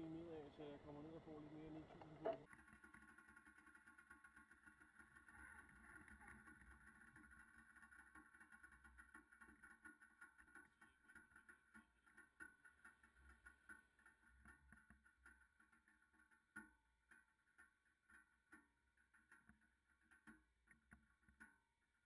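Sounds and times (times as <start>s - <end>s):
faint ticks and clicks: 0.0s - 22.0s.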